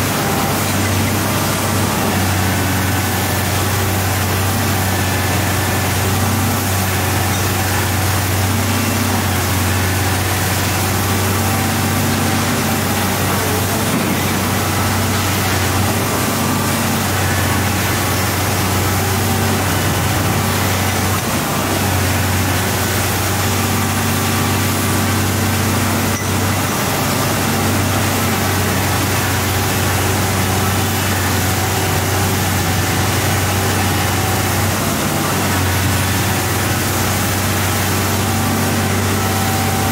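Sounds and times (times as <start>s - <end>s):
large diesel engine running: 0.0s - 39.9s.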